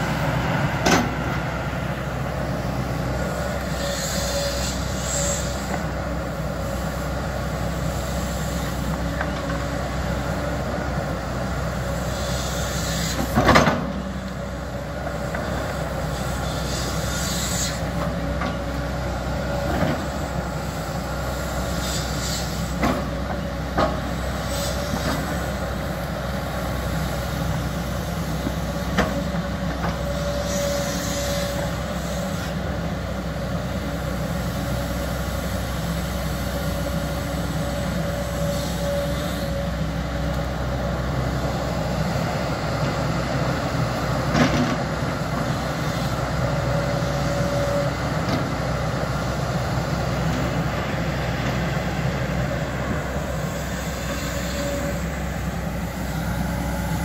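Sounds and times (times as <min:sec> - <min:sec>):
excavator engine humming: 0:00.0 - 0:57.0.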